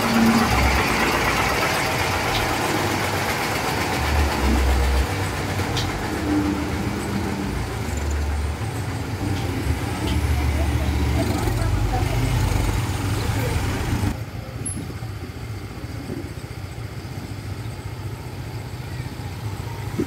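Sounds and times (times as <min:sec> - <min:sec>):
diesel truck engine idling: 0:00.0 - 0:20.0
street traffic noise: 0:00.0 - 0:20.0.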